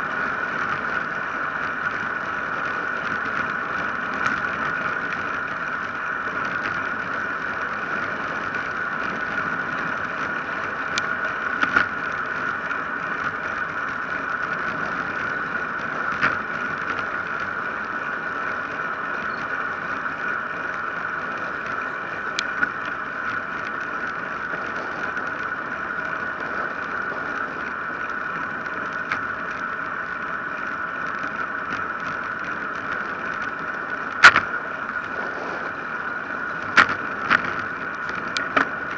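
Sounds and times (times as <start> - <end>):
bicycle tyres on asphalt: 0.0 - 38.9
mid-pitched hum: 0.0 - 38.9.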